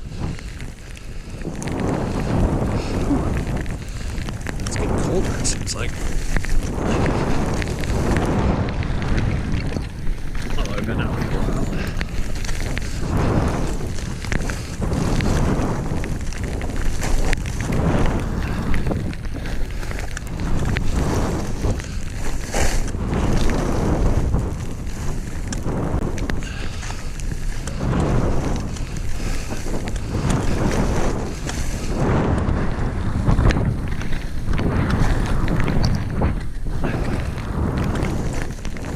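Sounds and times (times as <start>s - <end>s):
skis scraping over snow: 0.0s - 38.9s
wind buffeting microphone: 0.0s - 38.9s.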